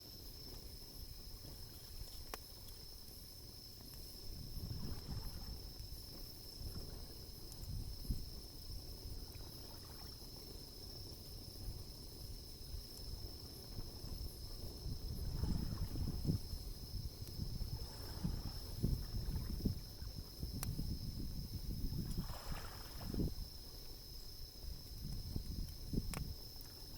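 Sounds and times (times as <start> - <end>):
bonfire crackling: 0.0 - 26.9
insect trill: 0.0 - 26.9.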